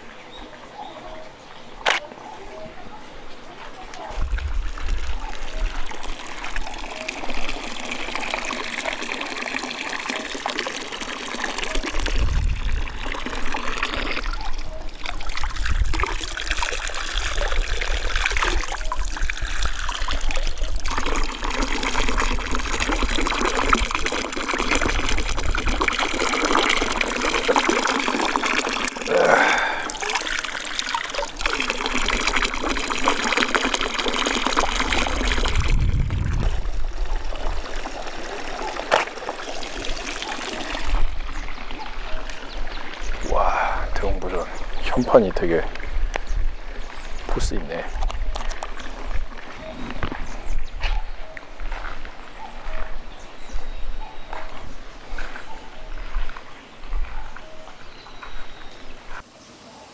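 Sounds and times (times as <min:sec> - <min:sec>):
water trickling and splashing: 0:03.3 - 0:59.3.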